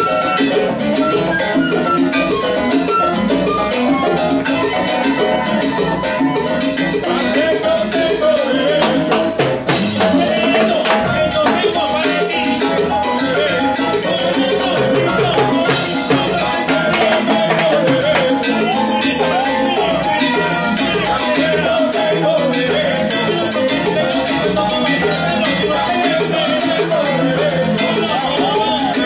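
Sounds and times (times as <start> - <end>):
salsa band playing: 0.0 - 29.0.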